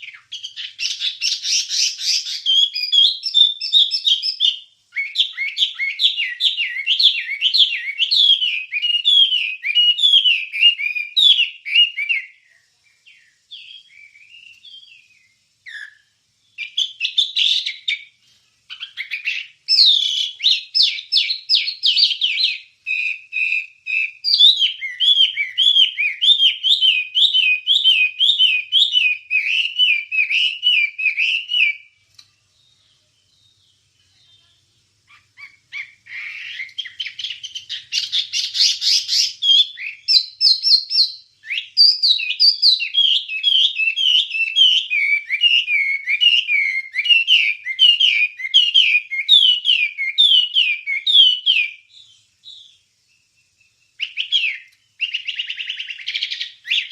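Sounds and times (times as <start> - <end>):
songbird whistling: 0.0 - 34.4, 35.1 - 56.9.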